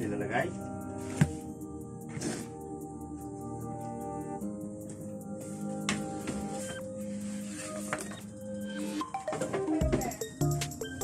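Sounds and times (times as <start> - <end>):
slow held-note music: 0.0 - 11.0.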